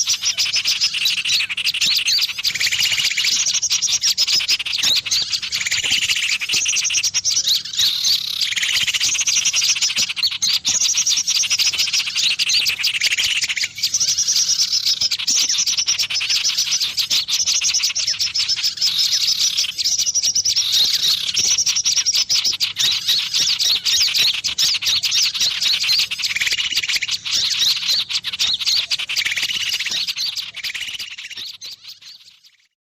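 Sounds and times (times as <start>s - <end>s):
bird chirps and trills: 0.0s - 32.8s.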